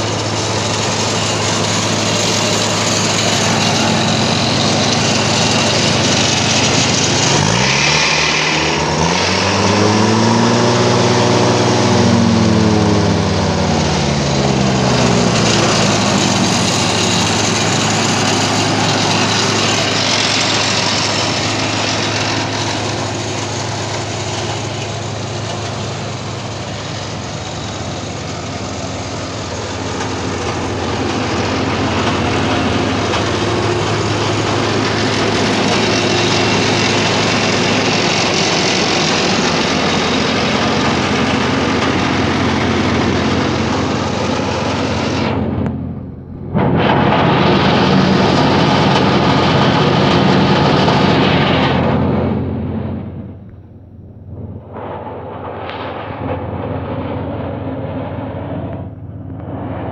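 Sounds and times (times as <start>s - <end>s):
wood chipper engine running: 0.0s - 59.9s.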